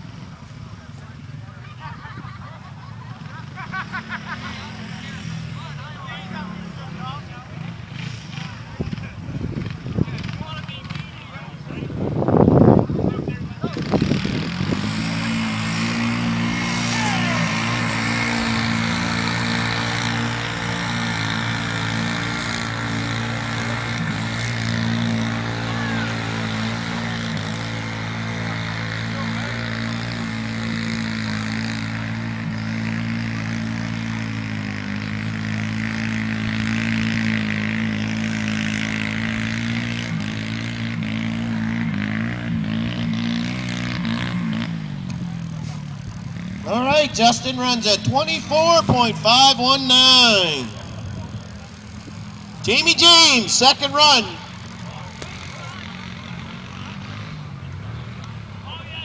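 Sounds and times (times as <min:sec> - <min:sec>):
atv engine revving high: 0:00.0 - 0:59.0.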